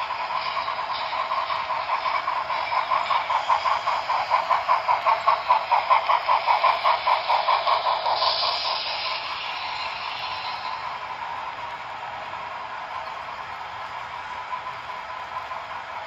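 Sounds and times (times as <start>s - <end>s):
model train clattering on track: 0.0s - 16.0s.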